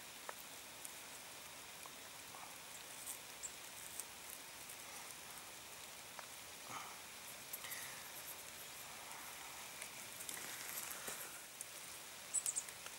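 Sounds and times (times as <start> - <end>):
light rain: 0.0 - 12.9.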